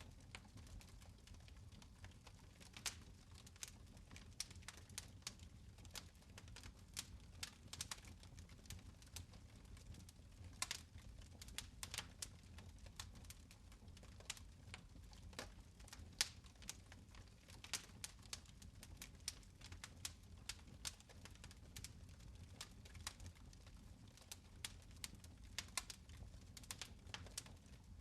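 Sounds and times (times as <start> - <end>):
fire crackling: 0.0 - 28.0.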